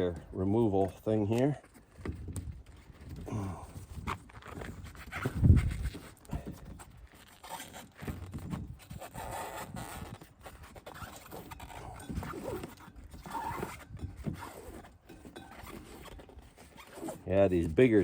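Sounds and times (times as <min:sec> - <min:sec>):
tire lever knocking and scraping: 0:00.0 - 0:18.0.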